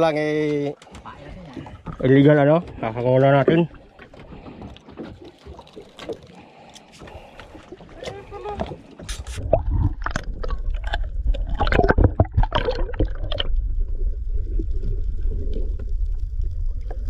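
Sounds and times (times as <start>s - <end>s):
water splashing and gurgling: 0.0s - 17.0s.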